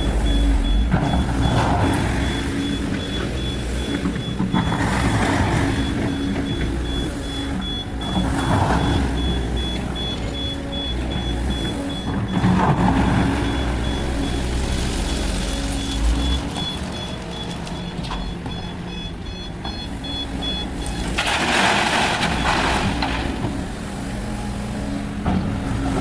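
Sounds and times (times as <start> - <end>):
excavator diesel engine working: 0.0 - 26.0.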